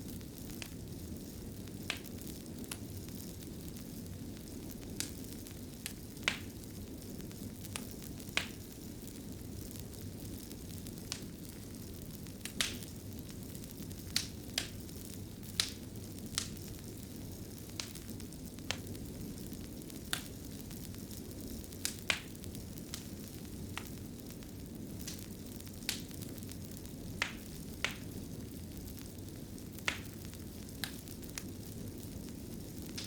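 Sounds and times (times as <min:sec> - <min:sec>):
low rumble of flame: 0:00.0 - 0:33.0
wood fire crackles and pops: 0:00.0 - 0:33.0.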